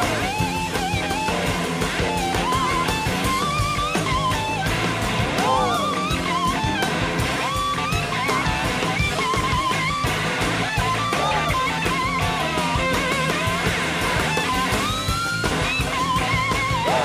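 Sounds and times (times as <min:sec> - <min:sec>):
electric guitar solo: 0:00.0 - 0:17.0
rock blues band playing: 0:00.0 - 0:17.0.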